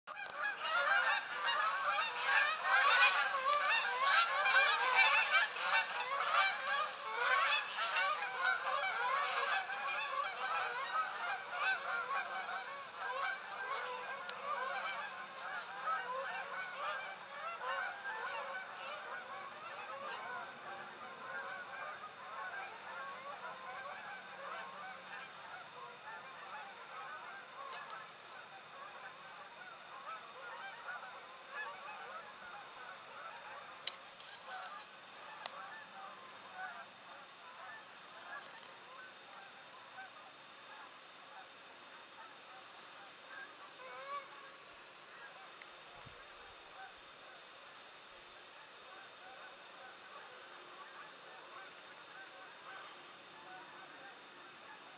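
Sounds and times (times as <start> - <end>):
geese honking: 0.1 - 54.9.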